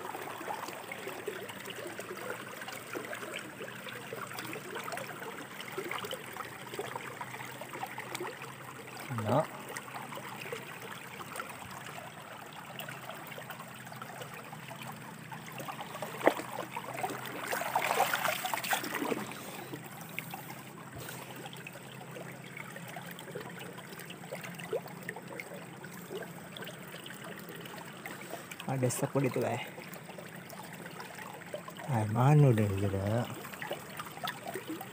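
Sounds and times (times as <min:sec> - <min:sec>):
stream water trickling: 0:00.0 - 0:34.9.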